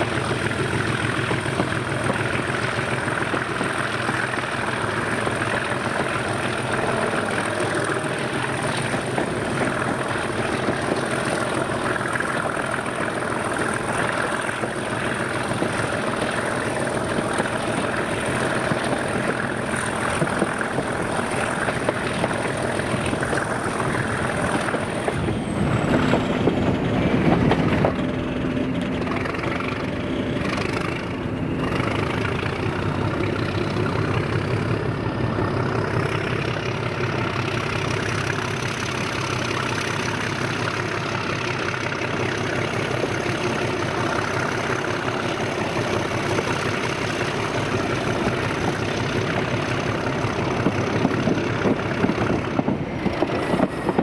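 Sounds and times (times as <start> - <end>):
diesel locomotive engine idling: 0.0 - 54.0.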